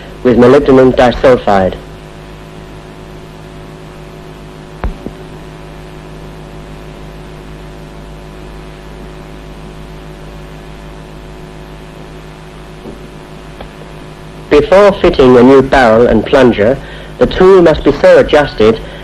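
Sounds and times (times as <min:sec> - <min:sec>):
electrical hum with hiss: 0:00.0 - 0:19.0.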